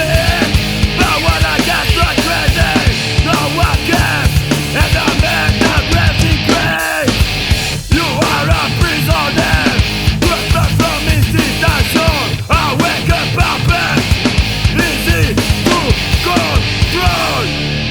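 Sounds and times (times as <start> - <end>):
loud rock music: 0.0 - 17.9.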